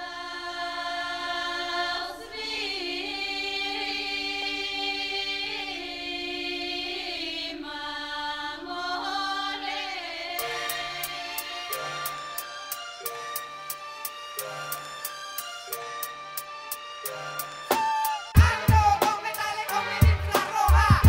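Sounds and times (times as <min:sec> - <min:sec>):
choir-like sung notes: 0:00.0 - 0:21.0.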